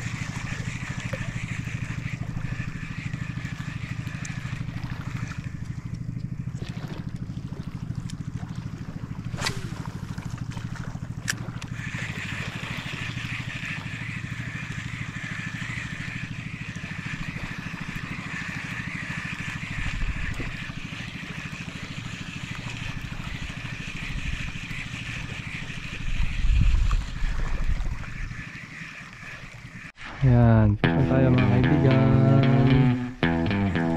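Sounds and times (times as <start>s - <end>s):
high steady buzz: 0.0s - 6.6s, 11.7s - 33.9s
pulsing engine drone: 0.0s - 33.9s.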